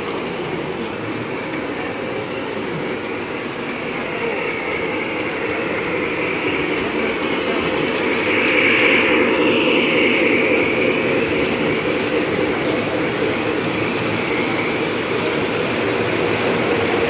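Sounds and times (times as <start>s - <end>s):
model train rolling on track: 0.0s - 17.0s.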